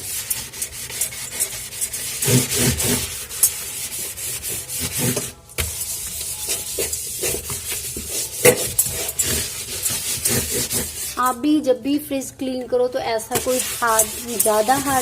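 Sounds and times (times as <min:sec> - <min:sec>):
scrubber pad scratching: 0:00.0 - 0:11.4, 0:13.3 - 0:15.0.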